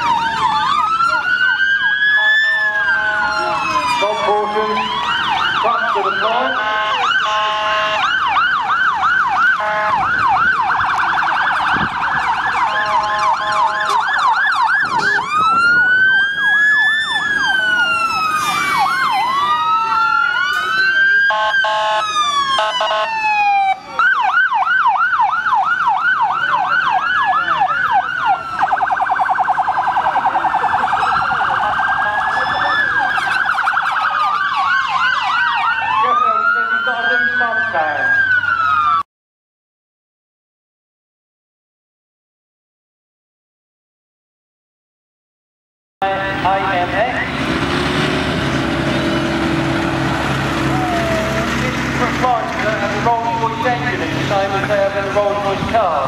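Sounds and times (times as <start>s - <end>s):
fire engine sirens wailing: 0.0s - 39.1s, 46.0s - 56.0s.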